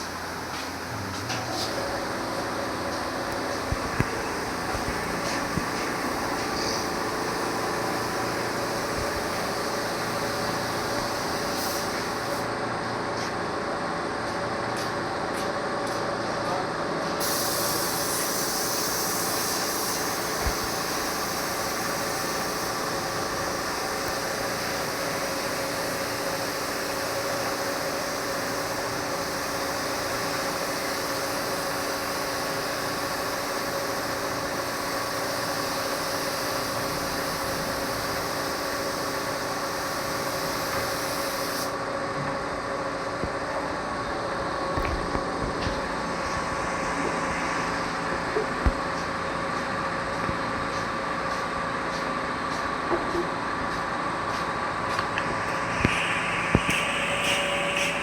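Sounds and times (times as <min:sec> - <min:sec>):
woodworking machine humming and hissing: 0:00.0 - 0:58.0.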